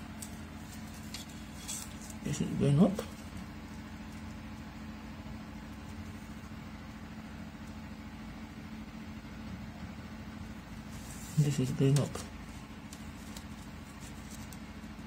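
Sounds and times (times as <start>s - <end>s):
low machine hum with faint hiss: 0.0s - 15.0s.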